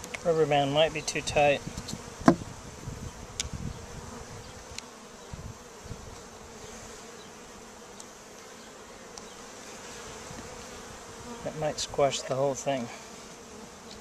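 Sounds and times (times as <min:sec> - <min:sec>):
honey bees buzzing: 0:00.0 - 0:14.0.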